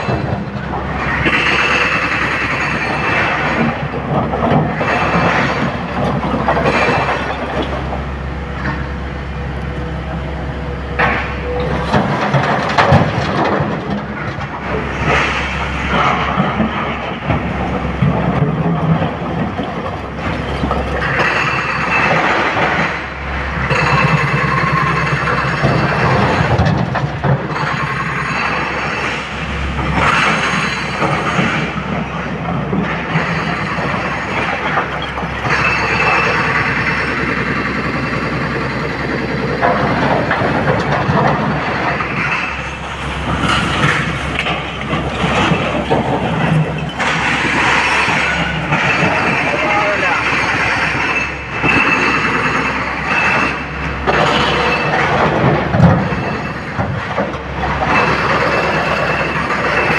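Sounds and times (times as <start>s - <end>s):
excavator engine and hydraulics: 0.0s - 59.9s.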